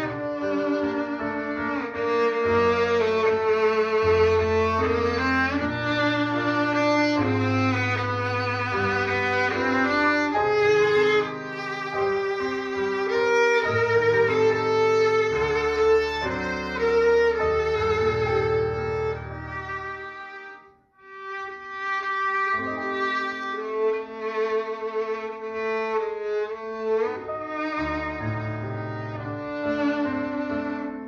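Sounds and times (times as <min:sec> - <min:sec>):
violin melody with vibrato: 0:00.0 - 0:31.0.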